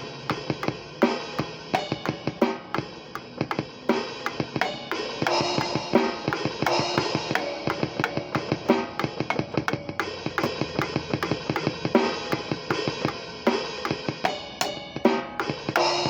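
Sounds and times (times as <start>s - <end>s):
acoustic drum kit playing: 0.0s - 16.0s
cymbal wash: 0.0s - 16.0s.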